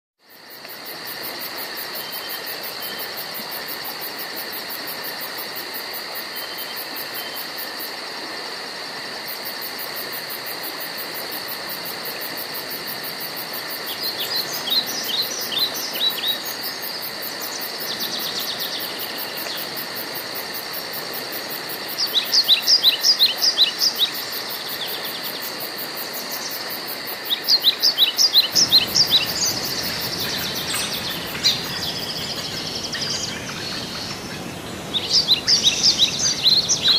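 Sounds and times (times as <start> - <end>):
insects droning: 0.2 - 36.9.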